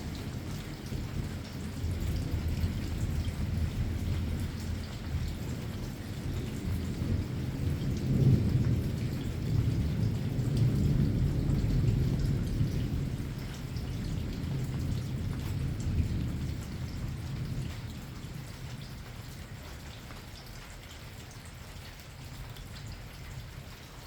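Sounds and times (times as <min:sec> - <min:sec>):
rolling thunder: 0:00.0 - 0:19.3
raindrops pattering on a surface: 0:00.0 - 0:24.0
steady rain: 0:00.0 - 0:24.0.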